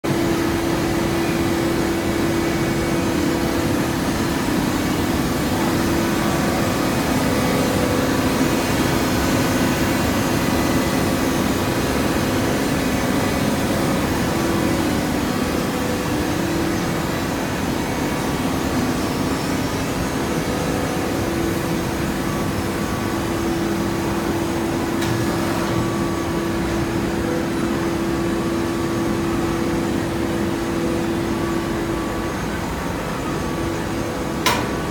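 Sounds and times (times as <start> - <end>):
hydraulic power unit humming: 0.0 - 34.9.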